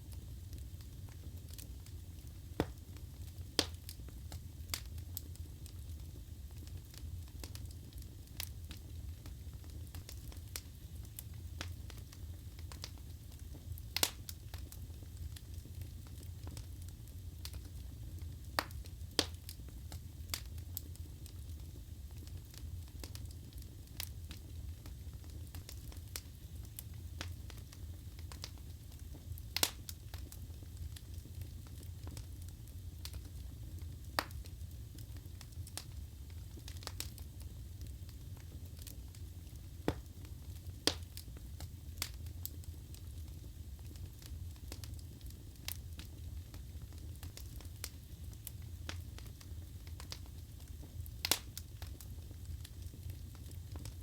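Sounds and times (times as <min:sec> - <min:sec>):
fire rumbling: 0:00.0 - 0:54.0
logs crackling and popping: 0:00.1 - 0:54.0.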